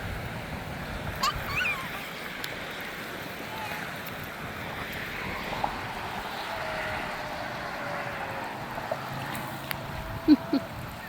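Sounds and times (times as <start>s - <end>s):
outdoor rushing noise: 0.0s - 11.0s.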